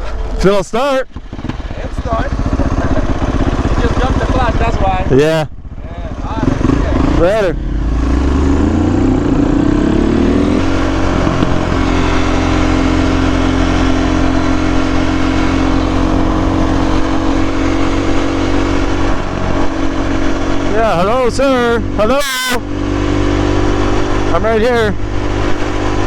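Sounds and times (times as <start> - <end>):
vehicle engine accelerating: 0.0 - 26.0.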